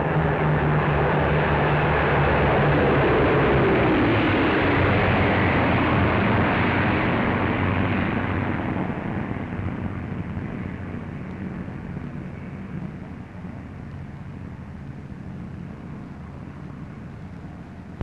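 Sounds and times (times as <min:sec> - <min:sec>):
propeller plane engines passing overhead: 0:00.0 - 0:18.0.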